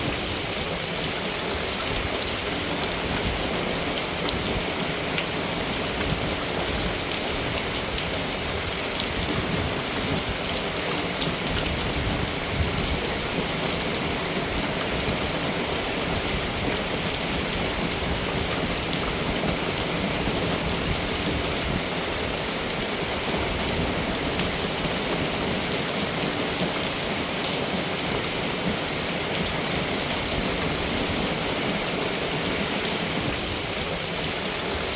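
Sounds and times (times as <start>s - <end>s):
rain pattering on surfaces: 0.0s - 34.9s.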